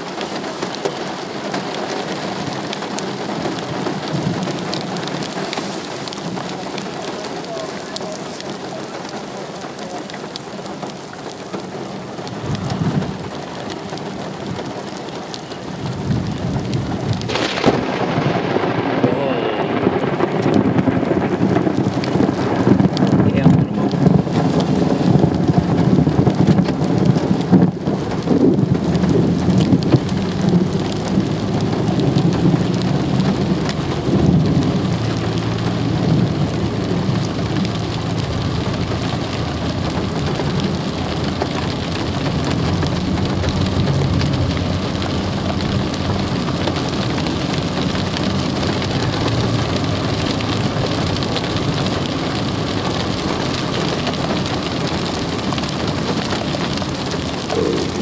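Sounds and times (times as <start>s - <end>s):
steady rain: 0.0s - 58.0s
low thunder rumbling: 10.9s - 58.0s.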